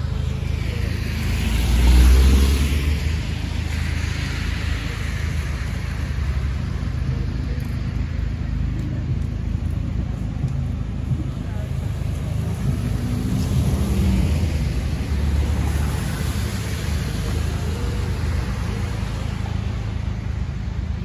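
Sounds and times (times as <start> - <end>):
car tyres hissing on wet street: 0.0 - 21.0
steady low rumble: 0.0 - 21.0.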